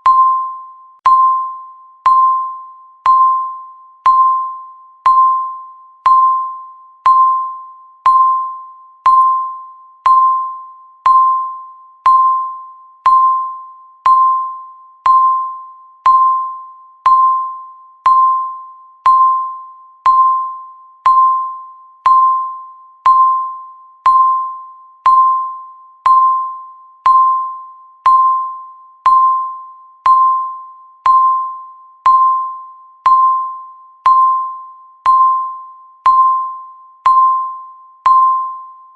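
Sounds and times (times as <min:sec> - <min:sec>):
electronic timer ding: 0:00.0 - 0:38.9.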